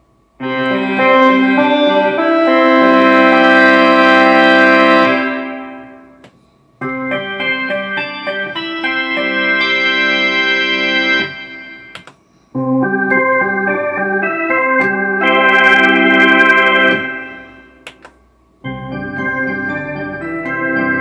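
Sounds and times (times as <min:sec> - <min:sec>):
synthesizer organ chords: 0:00.4 - 0:06.2, 0:06.8 - 0:18.0, 0:18.6 - 0:21.0.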